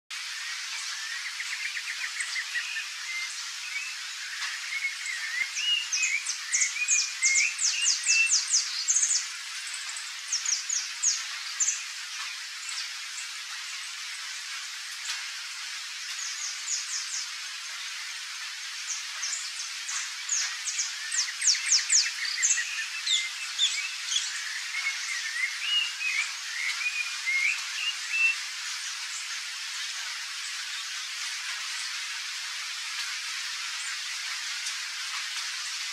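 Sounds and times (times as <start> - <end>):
birdsong with warbles and trills: 0.1 - 35.9
steady hiss: 0.1 - 35.9.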